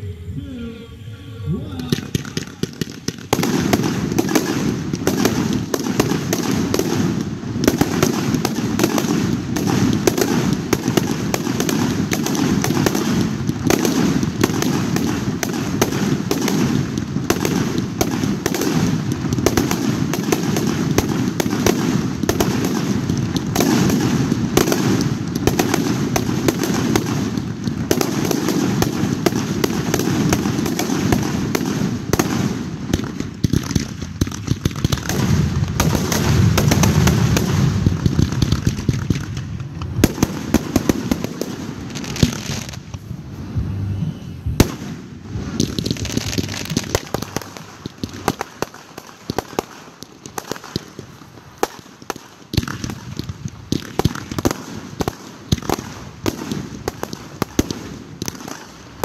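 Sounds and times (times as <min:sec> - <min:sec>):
continuous rumble: 0:00.0 - 0:48.8
fireworks launches and bangs: 0:01.7 - 0:59.0.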